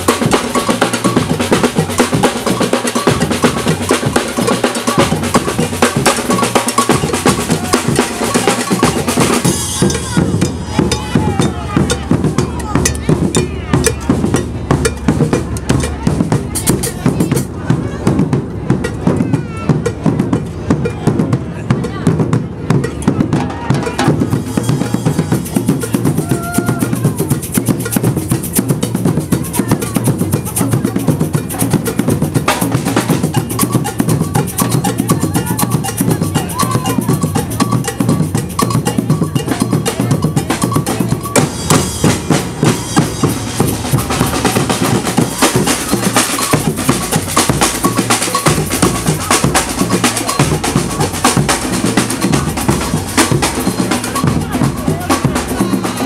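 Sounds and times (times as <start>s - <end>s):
bass drums struck with mallets: 0.0s - 56.0s.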